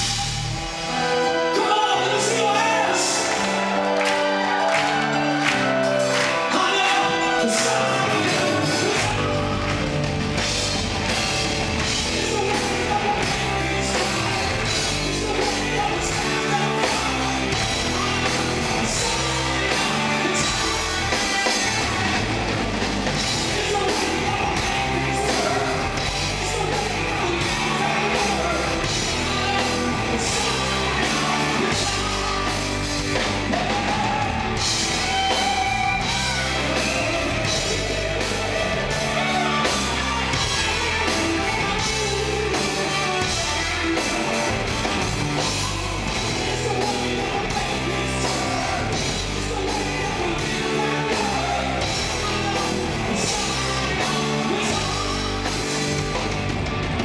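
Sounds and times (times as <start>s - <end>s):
person singing: 0.0s - 56.3s
drum kit: 0.0s - 57.0s
hard rock band playing: 0.0s - 57.0s
keyboards: 0.0s - 57.0s.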